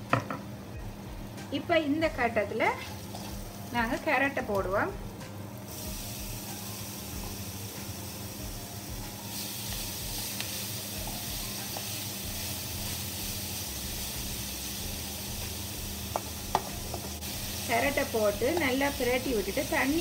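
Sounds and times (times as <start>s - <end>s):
carrots sizzling in hot oil: 1.7s - 20.0s.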